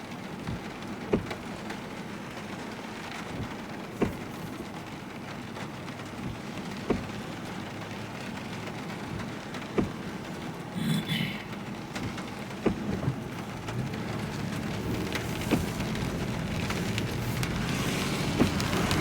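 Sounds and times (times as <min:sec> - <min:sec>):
heavy rain on a car: 0:00.0 - 0:19.0
road noise: 0:00.0 - 0:19.0.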